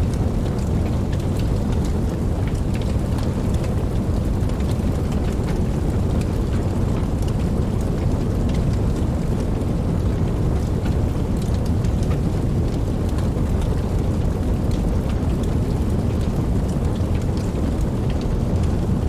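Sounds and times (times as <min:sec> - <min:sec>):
rain drops ticking: 0:00.0 - 0:19.0.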